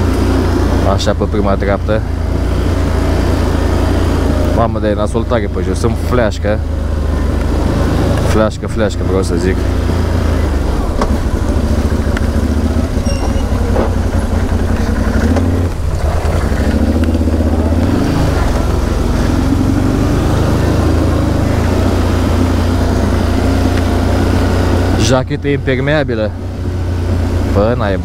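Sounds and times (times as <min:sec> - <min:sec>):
quad bike engine running: 0:00.0 - 0:28.0.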